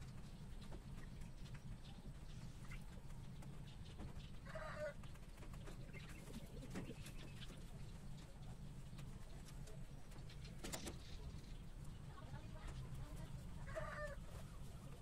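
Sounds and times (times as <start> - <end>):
birds pecking: 0.0 - 15.0.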